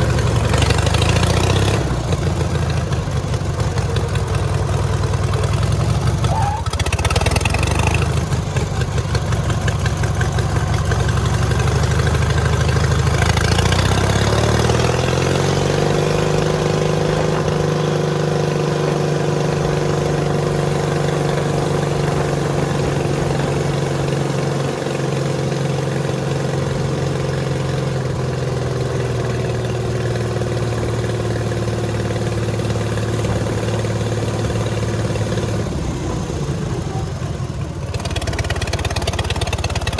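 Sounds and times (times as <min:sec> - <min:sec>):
riding mower engine revving: 0:00.0 - 0:39.9.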